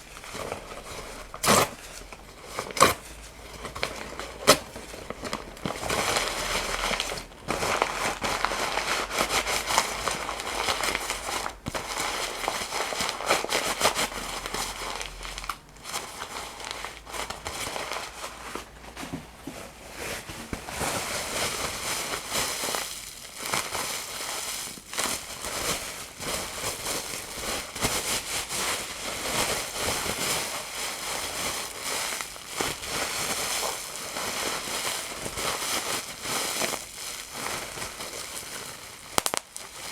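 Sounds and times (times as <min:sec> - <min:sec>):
material crinkling and crackling: 0:00.0 - 0:39.9.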